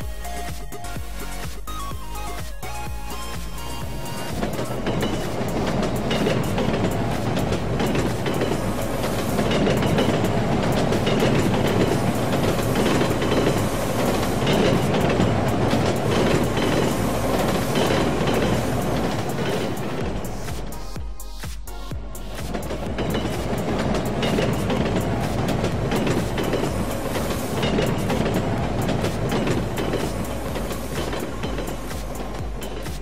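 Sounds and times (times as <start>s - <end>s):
train wheels clattering on rails: 0.0s - 21.1s, 21.7s - 33.0s.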